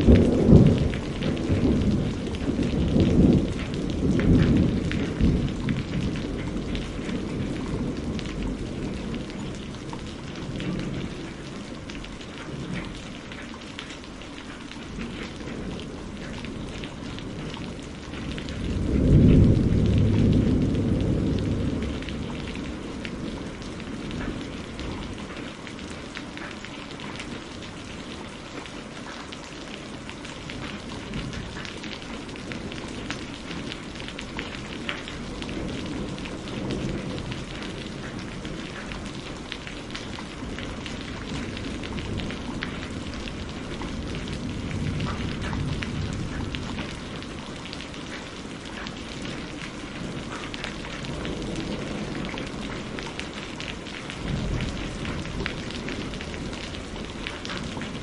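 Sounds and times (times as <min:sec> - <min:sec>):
rolling thunder: 0:00.0 - 0:13.8, 0:14.8 - 0:26.0, 0:29.9 - 0:58.0
rain pattering: 0:00.0 - 0:58.0.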